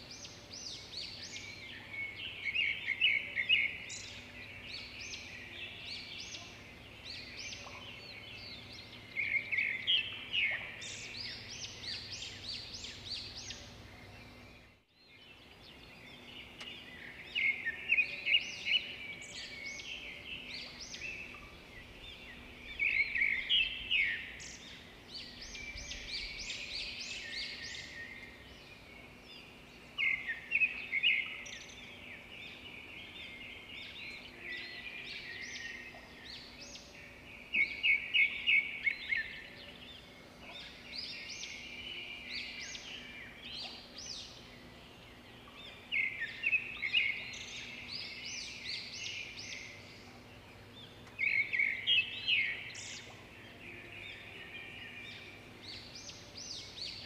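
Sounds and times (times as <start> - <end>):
birds chirping: 0.0 - 57.0
faint outdoor background noise: 0.0 - 57.0.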